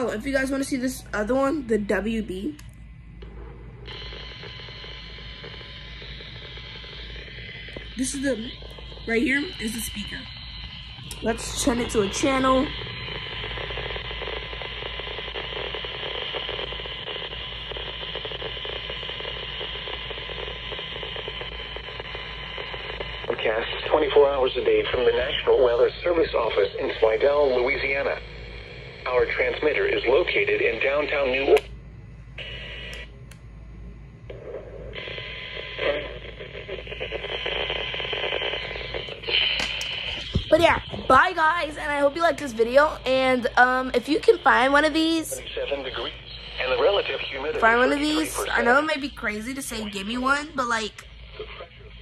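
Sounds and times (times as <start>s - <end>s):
radio static hiss: 0.0s - 31.8s, 32.4s - 33.5s, 34.1s - 52.0s.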